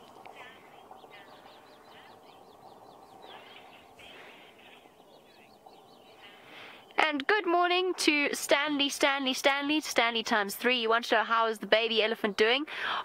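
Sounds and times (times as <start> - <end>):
steady background hiss: 0.0 - 10.4
birds chirping and trilling: 0.0 - 13.0.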